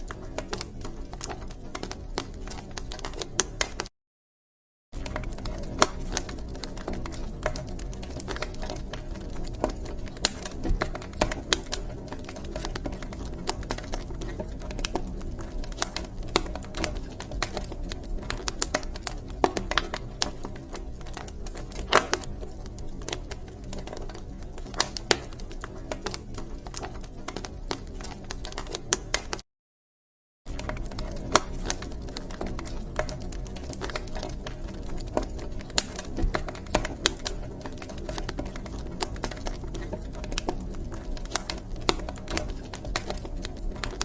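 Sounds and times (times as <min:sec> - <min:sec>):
wood fire crackling: 0:00.0 - 0:03.9, 0:05.0 - 0:29.4, 0:30.5 - 0:44.0.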